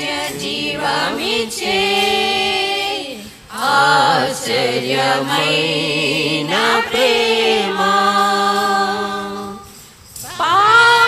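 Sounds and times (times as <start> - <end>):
women singing a hymn: 0.0 - 11.0.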